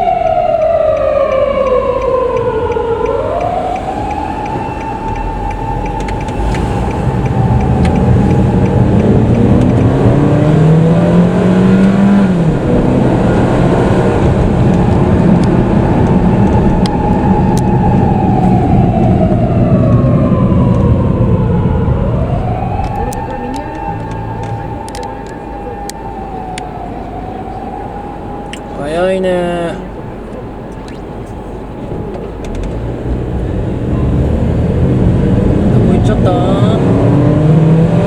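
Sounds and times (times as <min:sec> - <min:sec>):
car engine revving: 0:00.0 - 0:38.0
police siren wailing: 0:00.0 - 0:38.0
road noise: 0:00.0 - 0:38.0.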